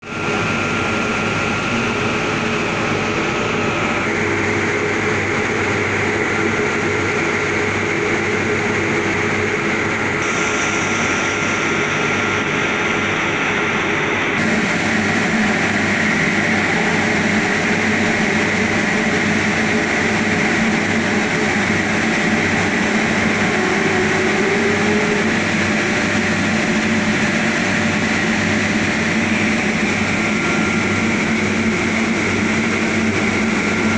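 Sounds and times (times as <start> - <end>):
glass washing machine running: 0.0 - 33.9.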